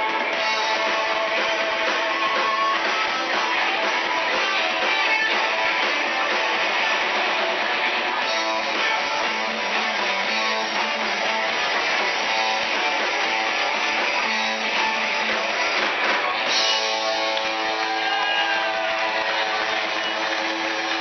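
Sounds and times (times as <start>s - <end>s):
electric guitar: 0.0s - 21.0s
live band playing: 0.0s - 21.0s.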